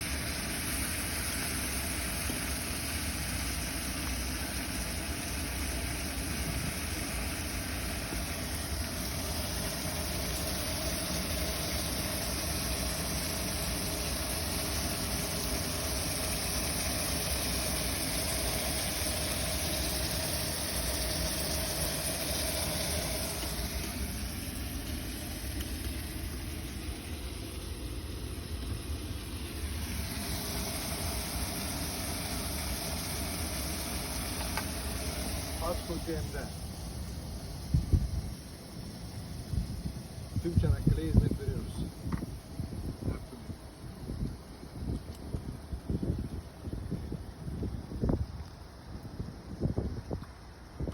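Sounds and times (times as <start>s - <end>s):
boat engine running: 0.0s - 44.4s.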